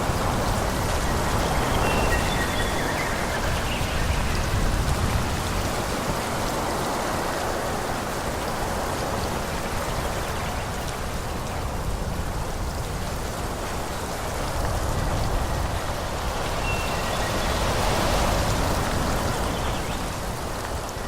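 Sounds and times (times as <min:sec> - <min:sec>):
wind through trees: 0:00.0 - 0:21.0.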